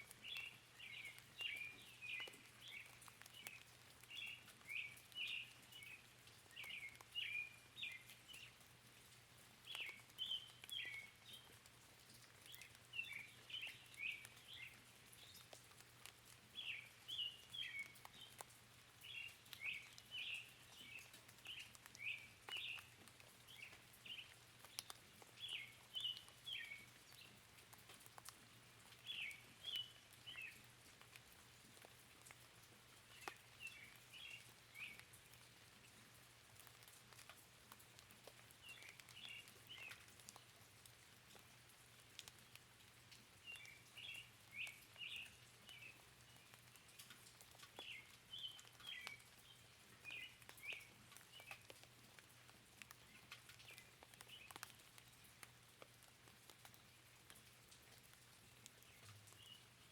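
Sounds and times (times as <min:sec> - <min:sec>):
rain hiss: 0:00.0 - 0:59.9
songbird chirping: 0:00.0 - 0:59.9
water drips: 0:00.0 - 0:59.9.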